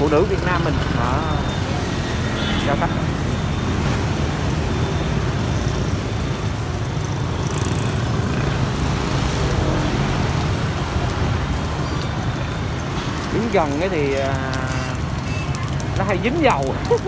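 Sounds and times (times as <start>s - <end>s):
road traffic rumbling past: 0.0s - 17.0s.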